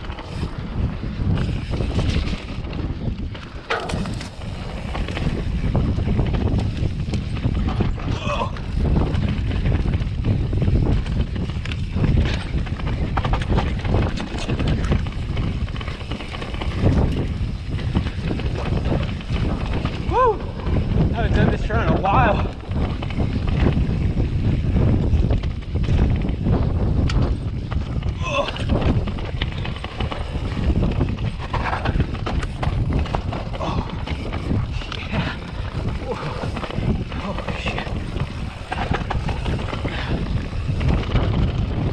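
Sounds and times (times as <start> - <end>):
bike clattering and rattling: 0.0 - 41.9
bike tyre rumble on dirt: 0.0 - 41.9
wind buffeting microphone: 0.0 - 41.9.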